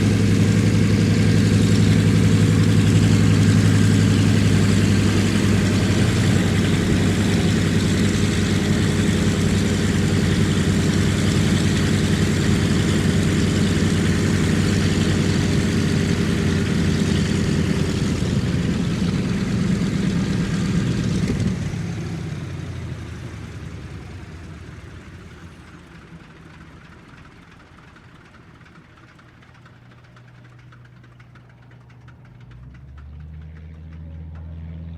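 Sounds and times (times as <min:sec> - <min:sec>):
propeller aircraft engines idling: 0:00.0 - 0:34.9.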